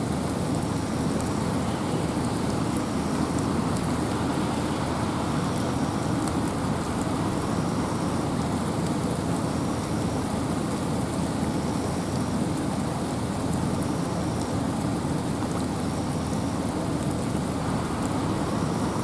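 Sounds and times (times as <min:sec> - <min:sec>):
patter of raindrops: 0:00.0 - 0:19.0
rain and wind in forest: 0:00.0 - 0:19.0.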